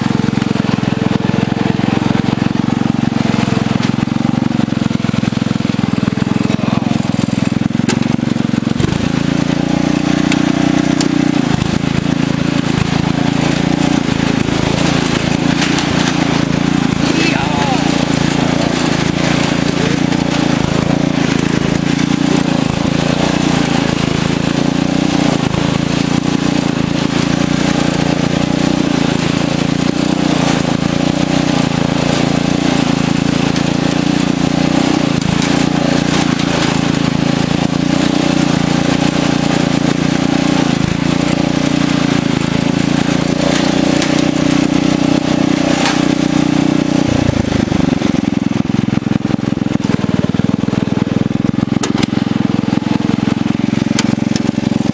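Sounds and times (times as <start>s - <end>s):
riding tractor engine running: 0.0s - 54.9s.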